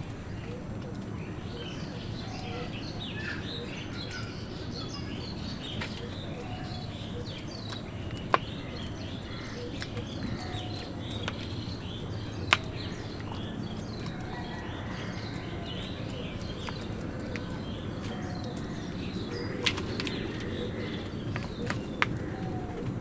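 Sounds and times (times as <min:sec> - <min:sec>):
flock of birds chirping: 0:00.0 - 0:23.0.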